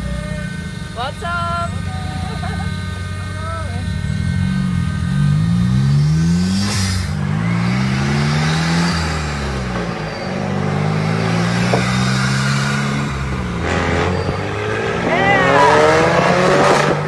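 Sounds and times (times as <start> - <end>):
turbocharged car engine revving: 0.0 - 17.0.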